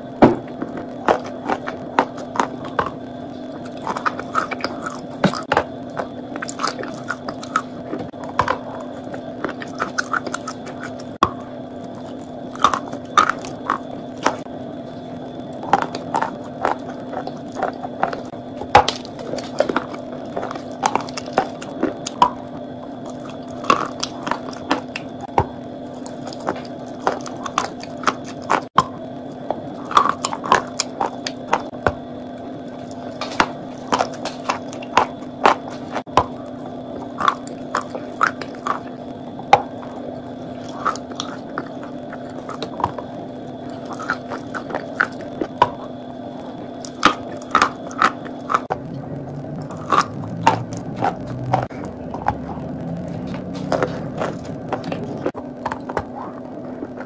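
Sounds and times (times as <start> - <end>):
crunchy biting and chewing: 0.0 - 57.0
steady low hum: 0.0 - 57.0.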